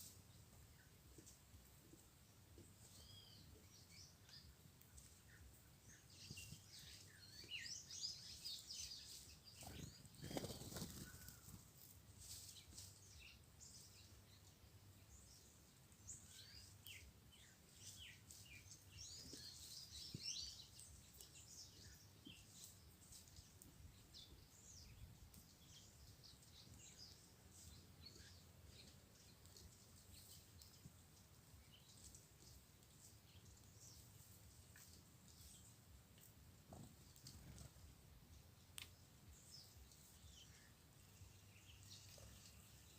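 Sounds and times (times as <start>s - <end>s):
low rustle: 0.0s - 42.9s
small birds chirping: 0.0s - 42.9s.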